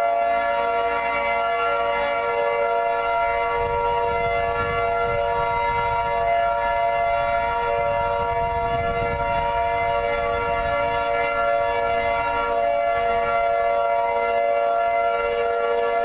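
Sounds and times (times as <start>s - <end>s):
warning siren steady tone: 0.0s - 16.0s.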